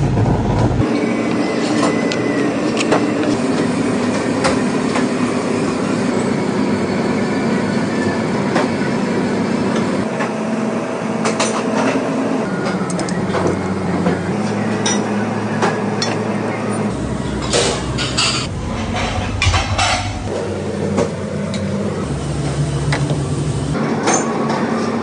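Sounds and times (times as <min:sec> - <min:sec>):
extraction fans humming: 0:00.0 - 0:25.0.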